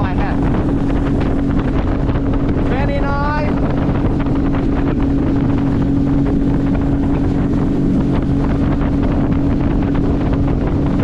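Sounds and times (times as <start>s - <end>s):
outboard motor running at high revs: 0.0s - 11.0s
water rushing along hull: 0.0s - 11.0s
wind buffeting microphone: 0.0s - 11.0s.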